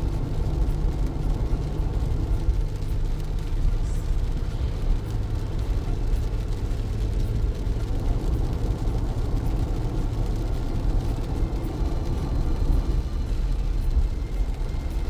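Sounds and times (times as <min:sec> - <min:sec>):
rain ticking on car: 0:00.0 - 0:15.0
tyres rumbling on wet road: 0:00.0 - 0:15.0.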